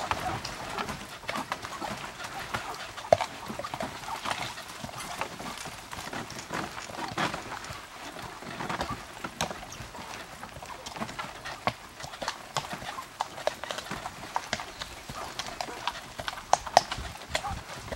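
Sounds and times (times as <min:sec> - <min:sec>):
horse hoofbeats on dirt: 0:00.0 - 0:17.9.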